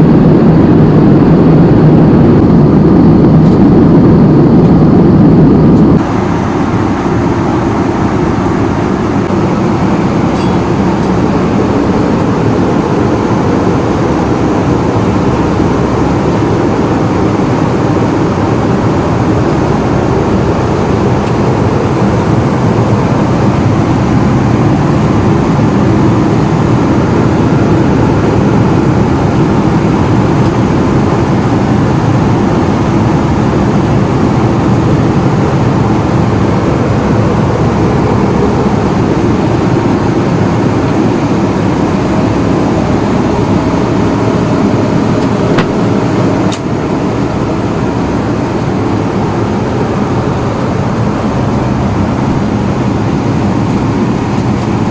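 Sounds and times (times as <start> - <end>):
airplane cabin rumble: 0.0 - 54.9.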